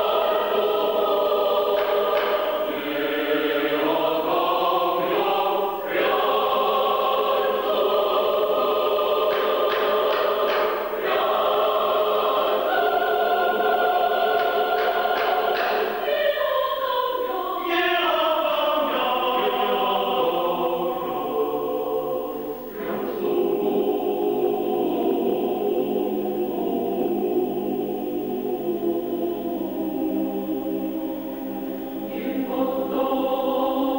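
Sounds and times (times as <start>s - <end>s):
choir singing: 0.0s - 33.9s.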